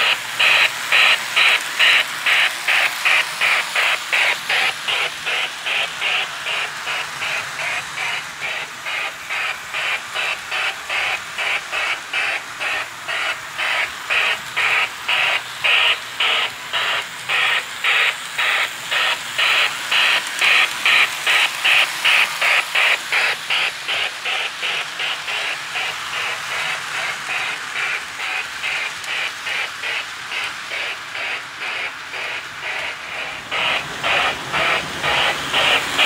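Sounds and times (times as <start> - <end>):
model steam locomotive chuffing: 0.0 - 36.0.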